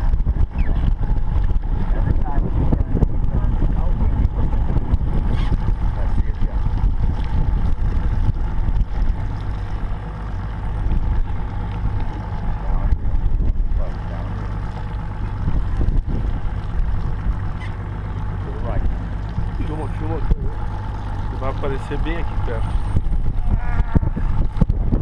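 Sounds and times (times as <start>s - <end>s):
boat motor running: 0.0s - 25.0s
wind rumbling on microphone: 0.0s - 25.0s.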